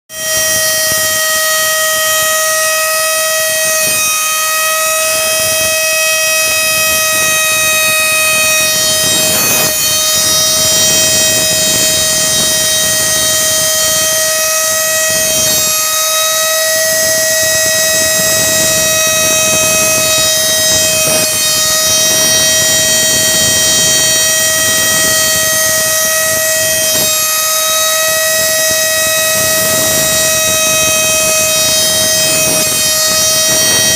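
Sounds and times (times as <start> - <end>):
cnc engraver whining: 0.1 - 33.9.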